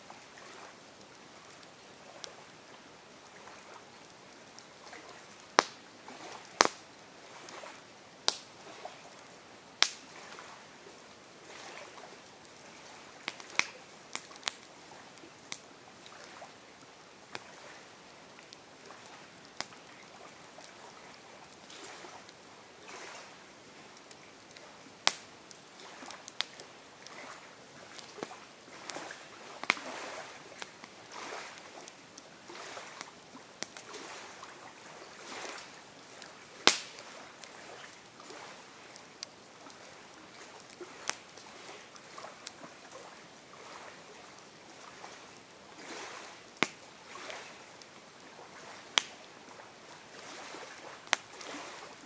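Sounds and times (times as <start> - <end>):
campfire crackling and popping: 0.1 - 52.0.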